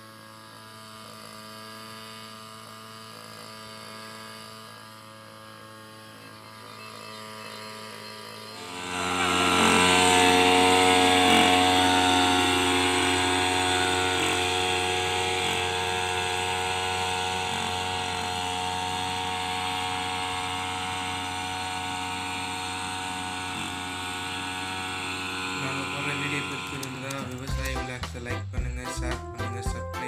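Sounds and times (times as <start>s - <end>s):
backpack sprayer motor humming: 0.0s - 29.1s.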